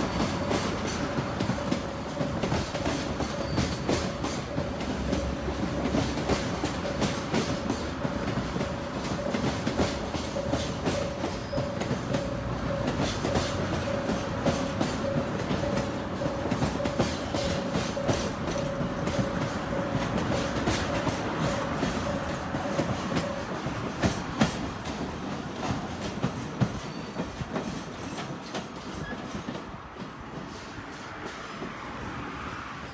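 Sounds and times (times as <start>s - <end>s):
train wheels clickety-clack: 0.0s - 32.7s
train rumble: 0.0s - 32.9s.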